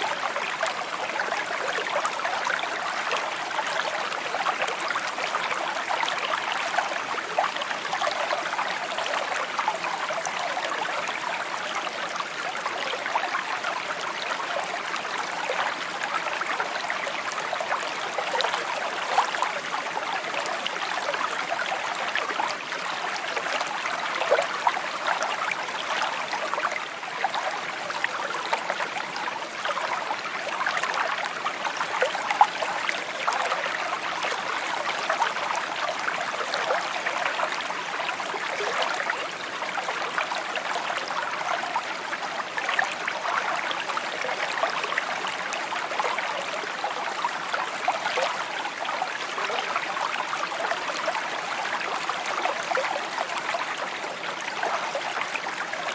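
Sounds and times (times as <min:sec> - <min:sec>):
small stream babbling: 0:00.0 - 0:55.9.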